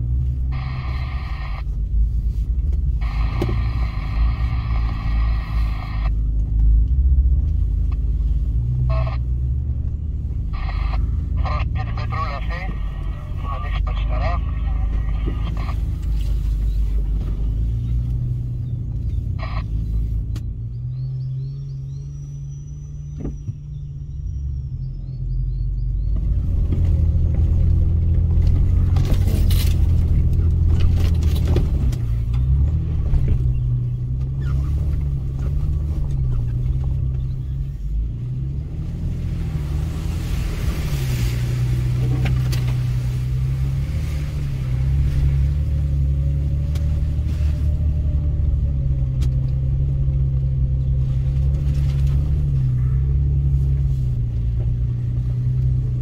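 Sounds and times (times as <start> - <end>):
engine running at low revs: 0.0 - 56.0.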